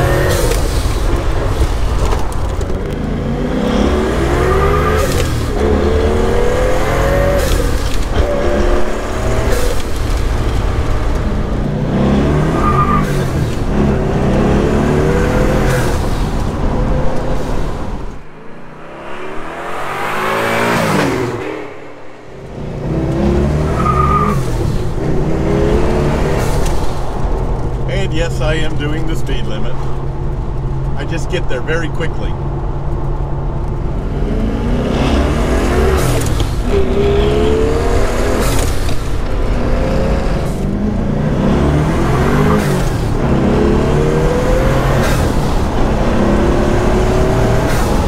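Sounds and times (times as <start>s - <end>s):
car engine accelerating: 0.0s - 48.0s.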